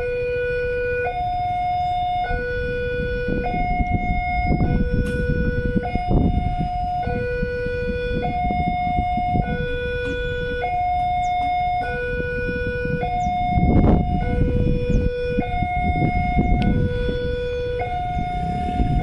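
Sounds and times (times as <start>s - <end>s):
level crossing alarm two-tone: 0.0s - 19.0s
road traffic: 0.0s - 19.0s.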